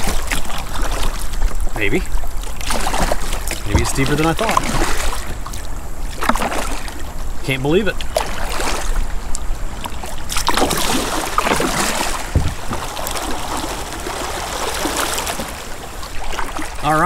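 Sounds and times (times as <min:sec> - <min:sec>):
paddle splashes: 0:00.0 - 0:17.0
rushing river water: 0:00.0 - 0:17.0.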